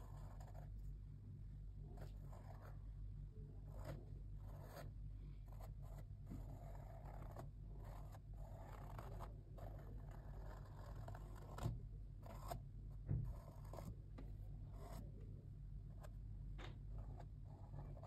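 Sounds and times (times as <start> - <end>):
marker scratching on canvas: 0.0 - 0.7, 1.8 - 2.9, 3.6 - 15.2, 15.9 - 18.0
steady low hum: 0.0 - 18.0.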